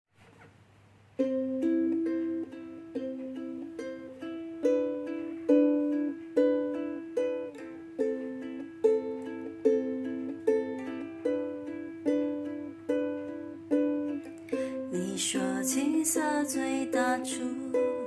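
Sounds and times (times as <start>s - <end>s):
solo ukulele picking notes: 1.2s - 18.0s.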